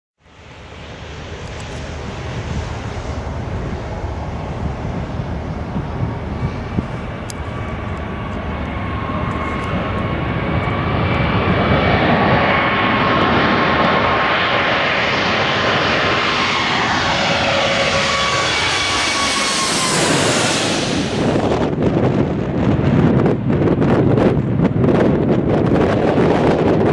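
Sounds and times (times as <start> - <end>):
jet engines roaring and whining: 0.2 - 26.9.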